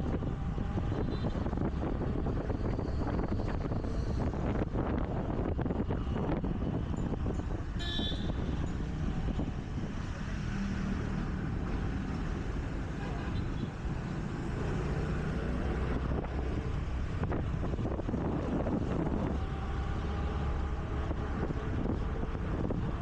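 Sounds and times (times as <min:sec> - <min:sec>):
scooter engine and road rumble: 0:00.0 - 0:23.0
wind on microphone: 0:00.0 - 0:23.0.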